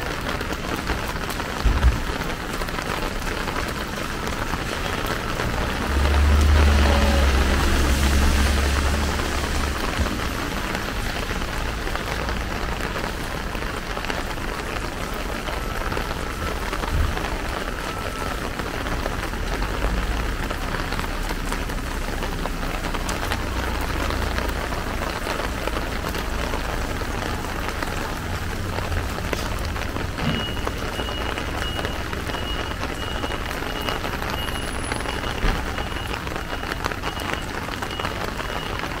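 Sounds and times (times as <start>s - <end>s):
rain on plastic umbrella: 0.0s - 39.0s.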